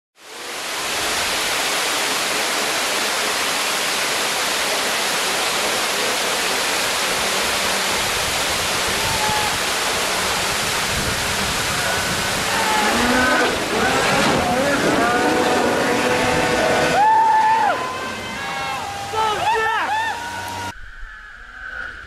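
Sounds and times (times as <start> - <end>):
water rushing over spillway: 0.2 - 20.7.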